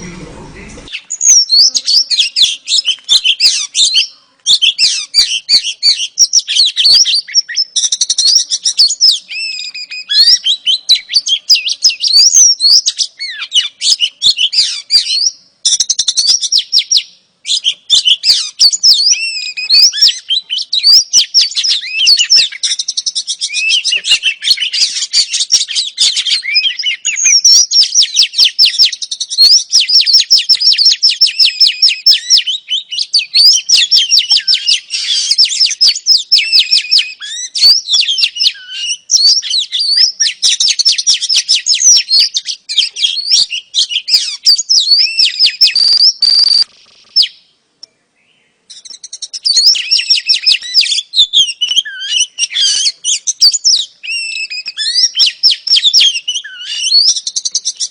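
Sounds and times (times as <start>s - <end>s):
bird chirping and trilling: 0.0s - 57.9s.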